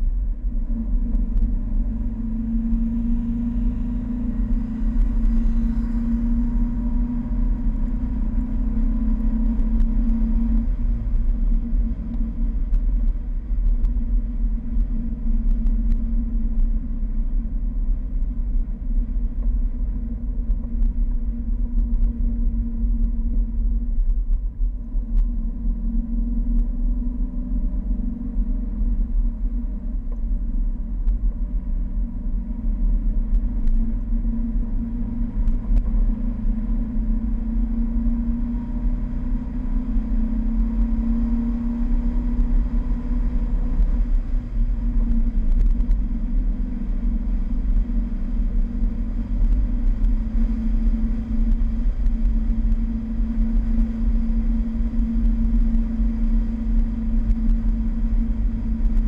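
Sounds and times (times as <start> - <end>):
car engine cruising: 0.0 - 59.0
wind and road noise rumble: 0.0 - 59.0.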